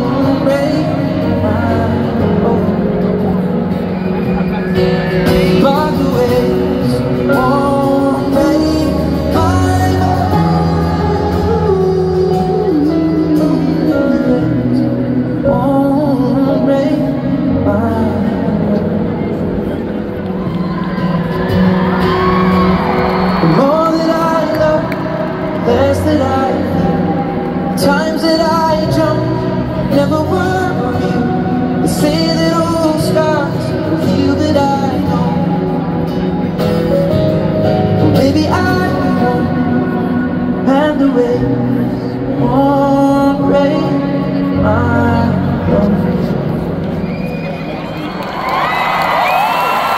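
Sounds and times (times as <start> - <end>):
acoustic guitar and piano music: 0.0 - 47.7
person singing slow melody: 0.0 - 47.8.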